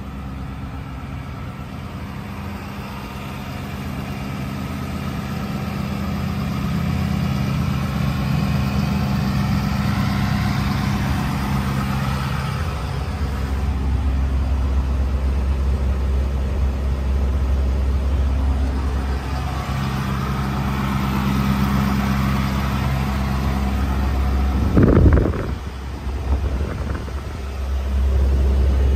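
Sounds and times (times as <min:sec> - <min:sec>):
pickup engine idling: 0:00.0 - 0:28.9.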